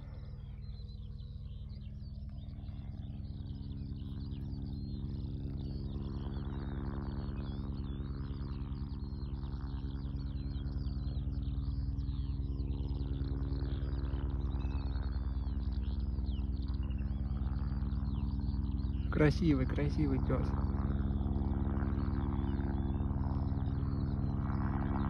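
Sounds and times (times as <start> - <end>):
small birds chirping: 0.0 - 25.0
steady low drone: 0.0 - 25.0.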